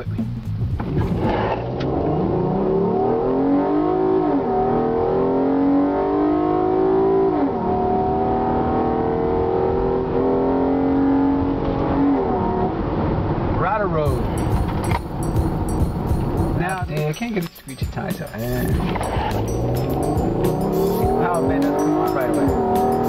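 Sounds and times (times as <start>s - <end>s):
car engine accelerating: 0.0s - 16.7s, 18.0s - 23.0s.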